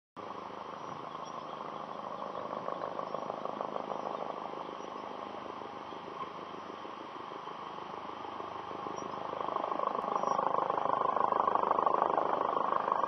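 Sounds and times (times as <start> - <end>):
helicopter rotor chop: 1.6 - 13.0.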